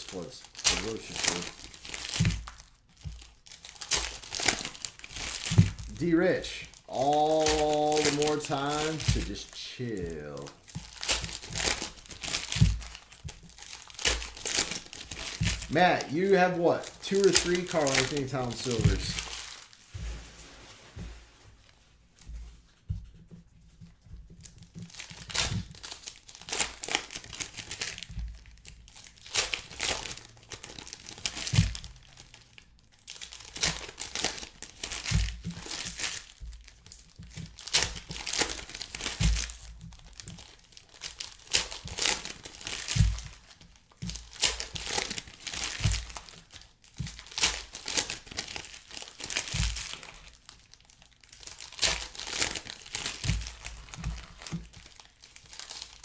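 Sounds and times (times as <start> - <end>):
plastic wrappers tearing and crinkling: 0.0 - 19.9, 24.4 - 56.0.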